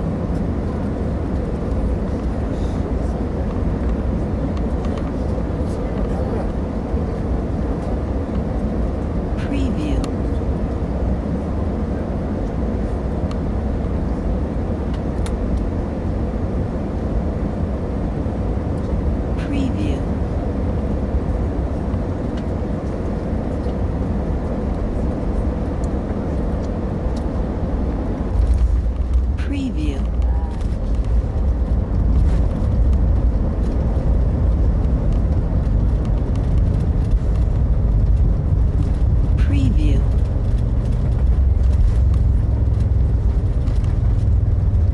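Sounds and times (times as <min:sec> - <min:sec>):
airliner cabin engine drone: 0:00.0 - 0:44.9.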